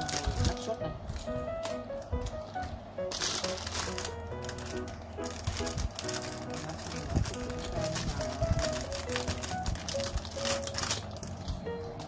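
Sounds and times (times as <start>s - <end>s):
plastic packaging crinkling: 0.0s - 1.4s, 3.1s - 11.6s
simple background music: 0.0s - 12.0s.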